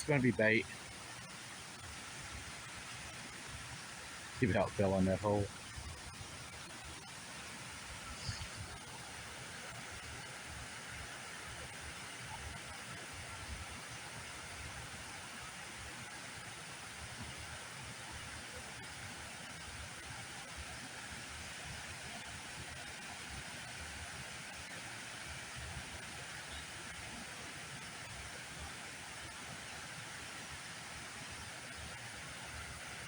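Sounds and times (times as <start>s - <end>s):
steady rushing outdoor noise: 0.0s - 33.0s.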